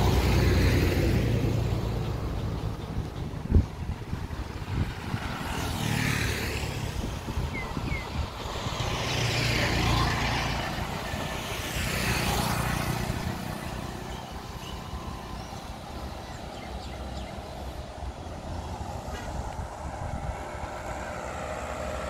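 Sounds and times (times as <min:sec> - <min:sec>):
low traffic rumble: 0:00.0 - 0:22.0
vehicles passing: 0:00.0 - 0:22.0.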